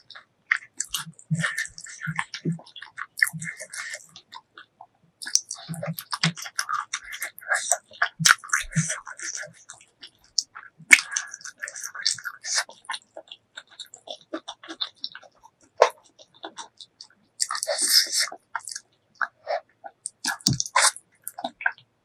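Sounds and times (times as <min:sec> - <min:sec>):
wet chewing and lip smacking: 0:00.0 - 0:21.8.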